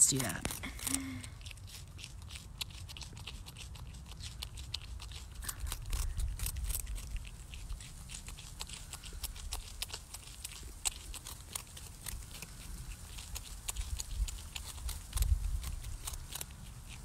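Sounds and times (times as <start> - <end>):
porcupine crunching food: 0.0 - 17.0.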